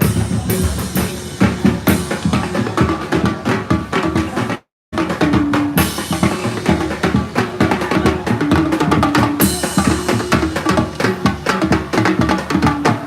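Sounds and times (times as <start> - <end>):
busy drum kit: 0.0 - 13.0
full band playing instrumental groove: 0.0 - 13.0.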